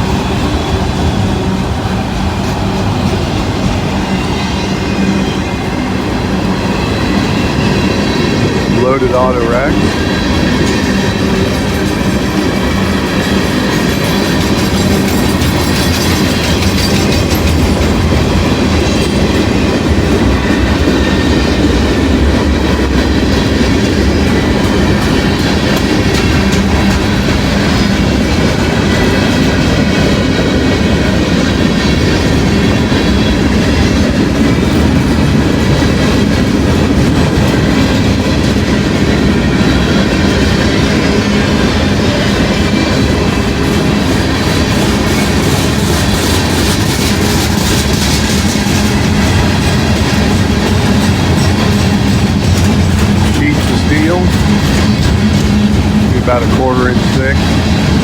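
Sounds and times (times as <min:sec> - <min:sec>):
train wheels rumbling on rail: 0:00.0 - 0:58.0
wheels clicking over rail joints: 0:09.8 - 0:58.0.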